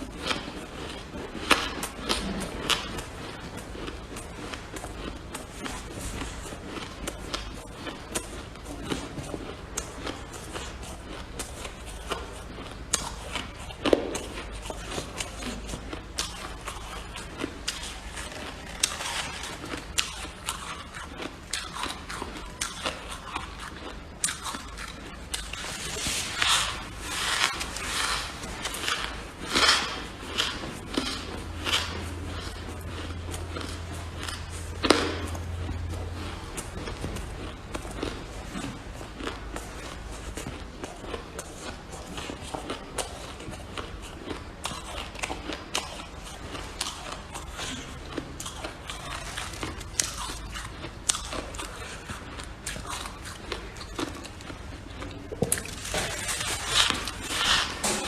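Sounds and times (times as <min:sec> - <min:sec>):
freezer frost crunching: 0:00.0 - 0:58.0
low steady hum: 0:00.0 - 0:58.0.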